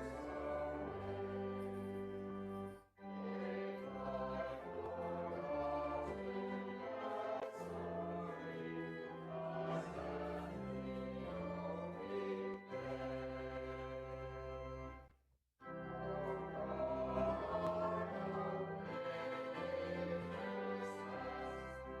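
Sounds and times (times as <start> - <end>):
choir singing: 0.0 - 14.3, 15.7 - 22.0
organ: 0.0 - 22.0.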